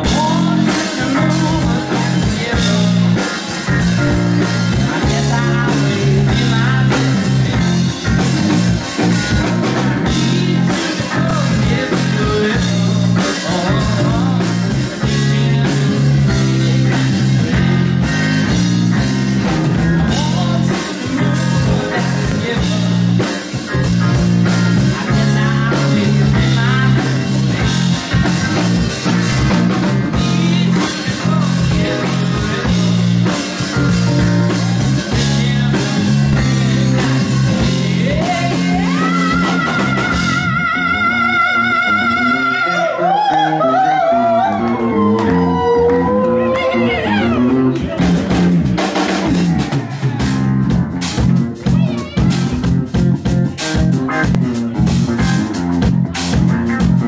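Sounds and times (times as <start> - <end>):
man singing: 0.0 - 48.4
funk band playing live: 0.0 - 57.0.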